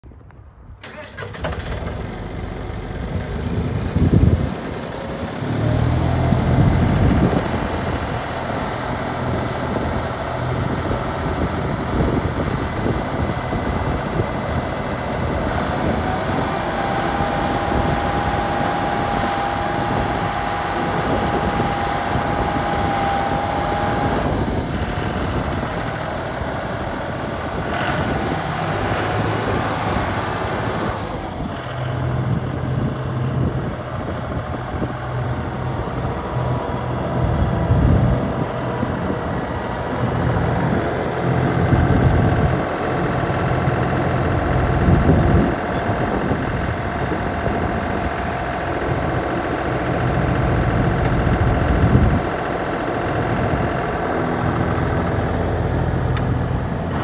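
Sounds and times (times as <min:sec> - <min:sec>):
tractor diesel engine running: 0:00.3 - 0:57.0.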